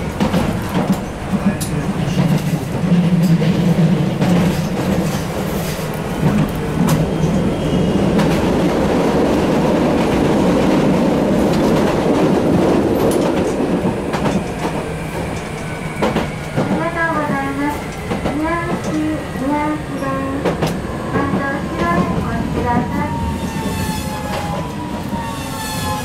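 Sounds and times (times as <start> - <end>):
tram wheels rumbling on rail: 0.0 - 26.0.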